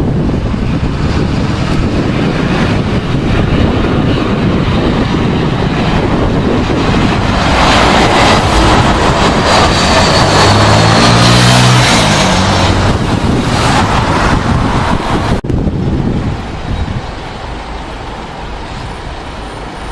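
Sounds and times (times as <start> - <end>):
high engine whine: 0.0 - 19.9
jet engine noise: 0.0 - 19.9
wind buffeting microphone: 0.0 - 19.9.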